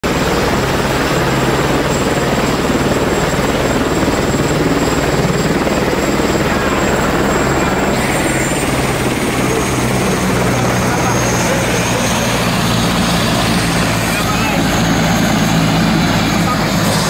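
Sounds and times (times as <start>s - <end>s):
helicopter engine drone: 0.0s - 17.0s
helicopter rotor chop: 0.0s - 17.0s.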